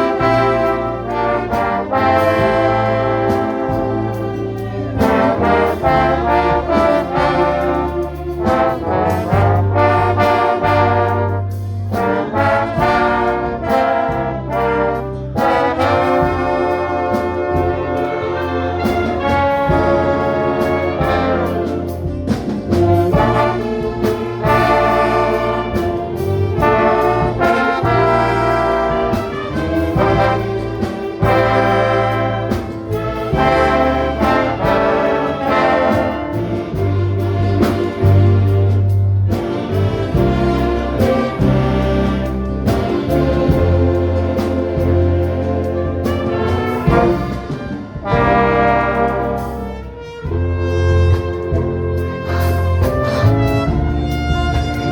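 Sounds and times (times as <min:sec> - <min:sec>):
brass-led orchestra playing: 0:00.0 - 0:54.9.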